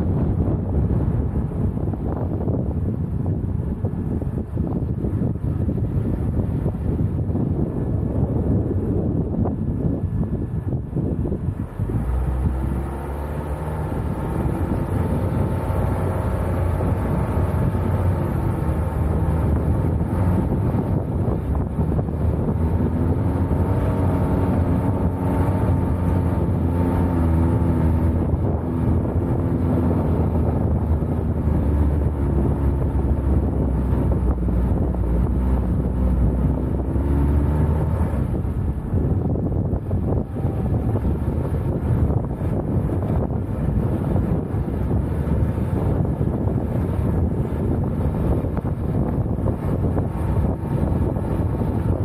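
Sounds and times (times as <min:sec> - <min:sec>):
car engine running: 0:00.0 - 0:52.0
wind noise on microphone: 0:00.0 - 0:52.0.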